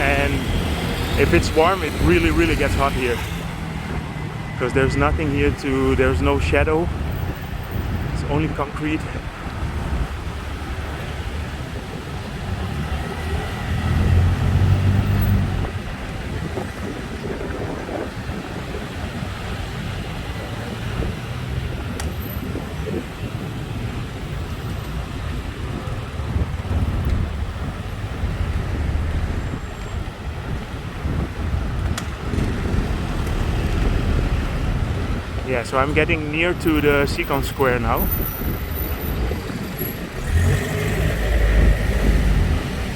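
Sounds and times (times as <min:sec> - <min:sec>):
road traffic rumble: 0:00.0 - 0:42.9.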